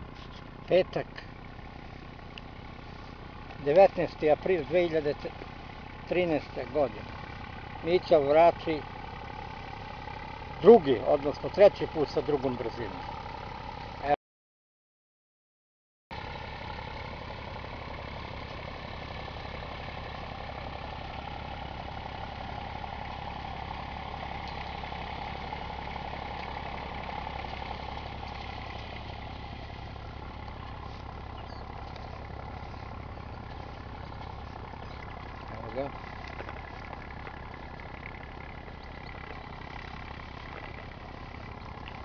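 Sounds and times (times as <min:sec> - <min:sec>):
tractor diesel engine under load: 0:00.0 - 0:14.2, 0:16.1 - 0:42.0.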